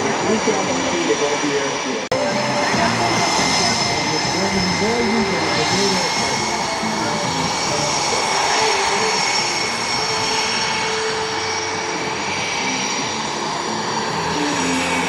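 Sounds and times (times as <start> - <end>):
jet aircraft roaring: 0.0 - 15.0.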